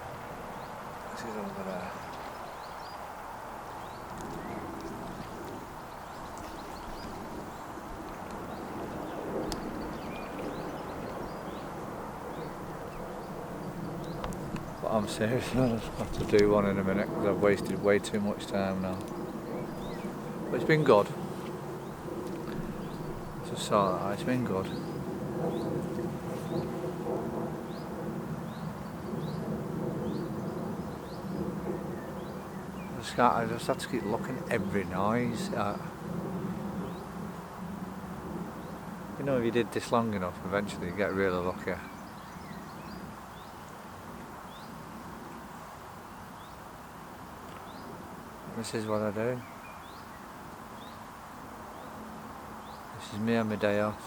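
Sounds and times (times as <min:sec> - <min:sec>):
low rumble of background noise: 0:00.0 - 0:54.0
small birds chirping: 0:00.0 - 0:54.0.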